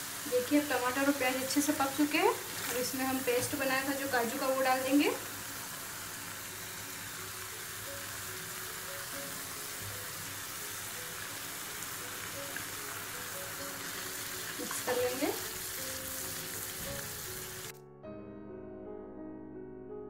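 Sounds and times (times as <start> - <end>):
gravy sizzling in a pan: 0.0 - 17.7.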